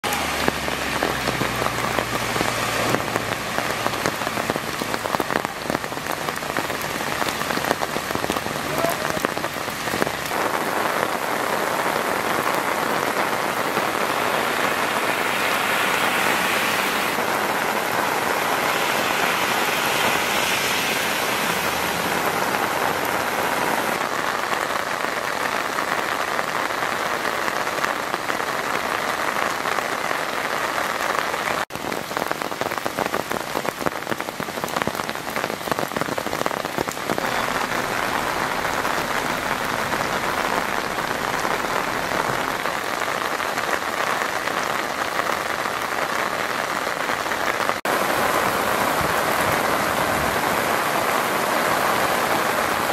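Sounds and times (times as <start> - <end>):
torrential rain on pavement: 0.0 - 52.9.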